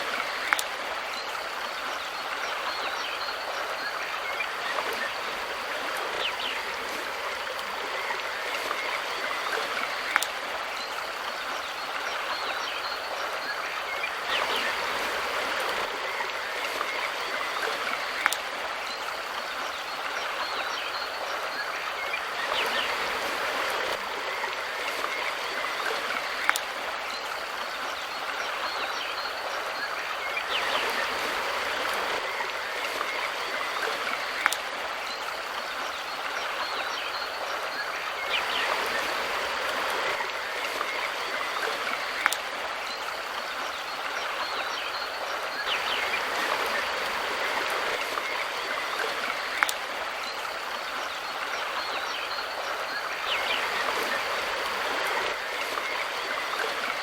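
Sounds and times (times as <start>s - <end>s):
river rushing over stones: 0.0s - 57.0s.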